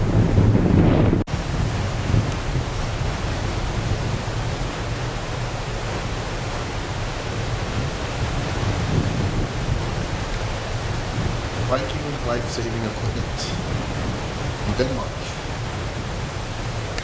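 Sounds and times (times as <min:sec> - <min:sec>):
wind and sea rushing: 0:00.0 - 0:17.0
wind buffeting microphone: 0:00.0 - 0:17.0.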